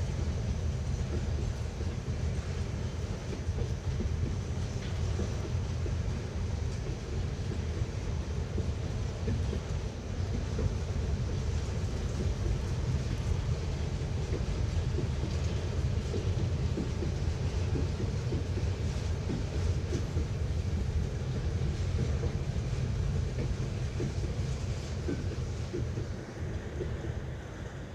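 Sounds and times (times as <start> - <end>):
freight train rolling past: 0.0 - 27.9
train wheel clicks: 0.0 - 27.9.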